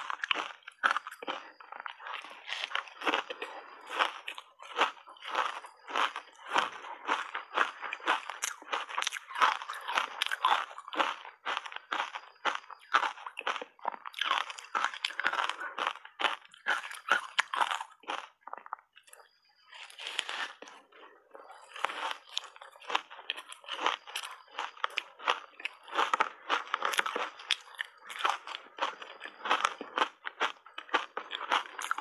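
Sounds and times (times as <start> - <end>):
ice being chewed and crunched: 0.0 - 32.0.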